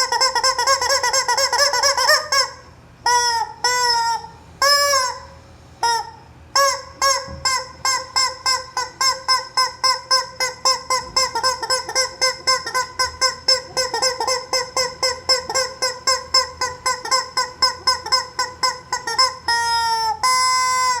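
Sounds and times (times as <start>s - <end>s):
rubber chicken toy squawking: 0.0s - 21.0s.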